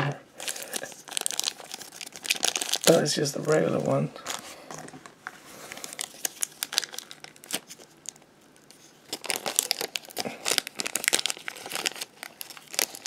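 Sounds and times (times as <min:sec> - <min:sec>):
plastic wrapping crinkling: 0:00.4 - 0:13.0.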